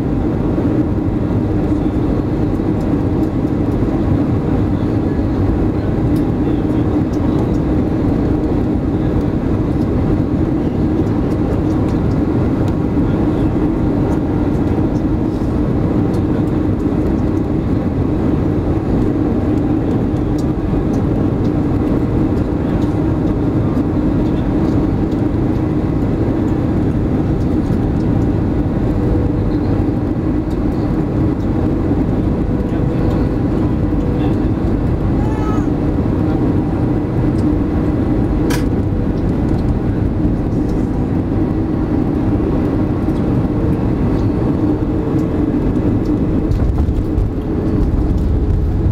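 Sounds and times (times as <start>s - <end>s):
airplane cabin roar: 0.0s - 48.9s.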